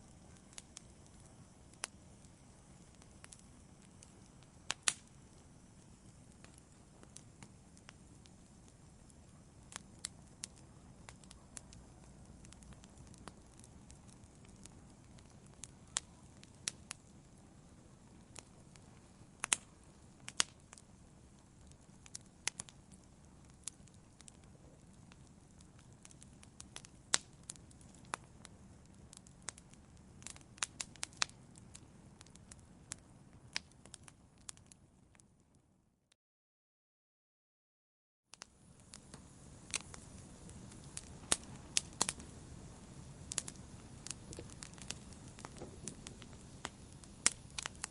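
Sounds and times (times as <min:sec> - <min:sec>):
wood fire crackling: 0:00.0 - 0:35.5, 0:38.3 - 0:47.9.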